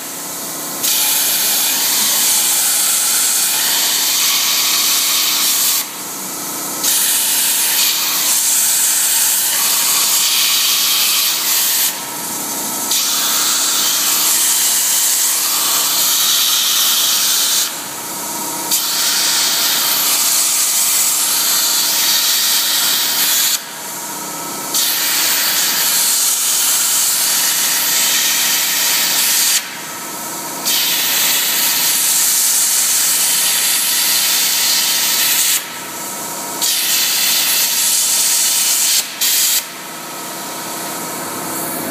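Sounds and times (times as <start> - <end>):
plasma cutting torch hissing: 0.8 - 6.0, 6.8 - 18.0, 18.6 - 23.7, 24.7 - 29.7, 30.6 - 35.9, 36.6 - 41.9.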